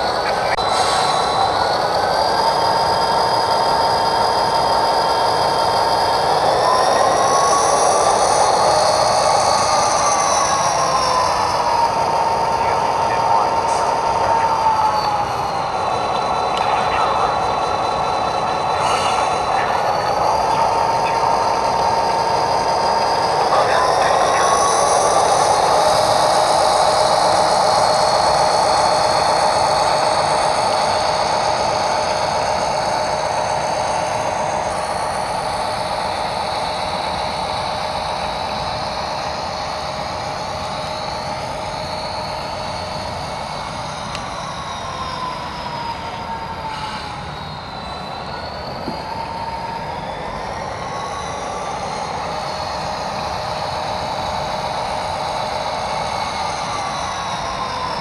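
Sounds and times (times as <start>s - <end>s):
model train rolling rumble: 0.0s - 58.0s
model train whine: 0.0s - 58.0s.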